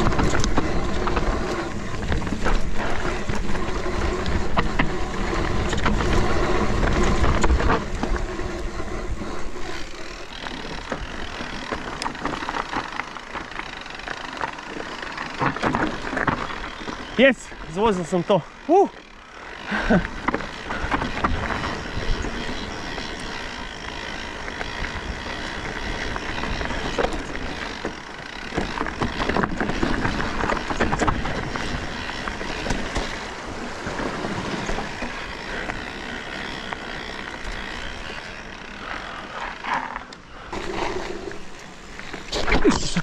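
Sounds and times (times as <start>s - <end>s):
bike rattling over bumps: 0.0s - 43.0s
tyres rolling over dirt: 0.0s - 43.0s.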